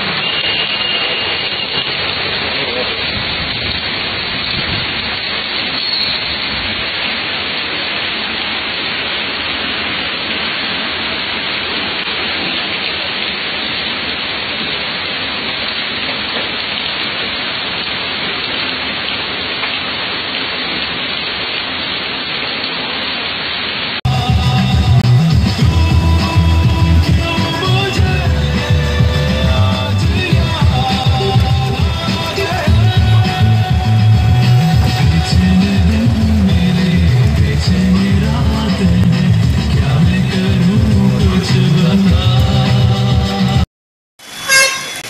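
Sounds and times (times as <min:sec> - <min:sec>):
heavy rain on a street: 0:00.0 - 0:43.6.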